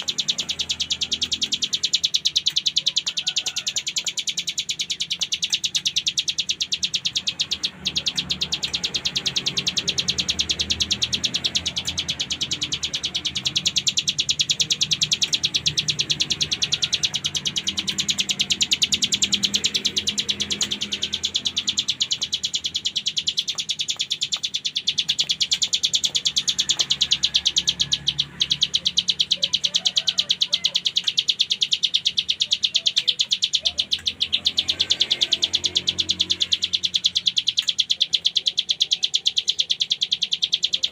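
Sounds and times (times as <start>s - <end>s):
bird trilling song: 0.0s - 40.9s.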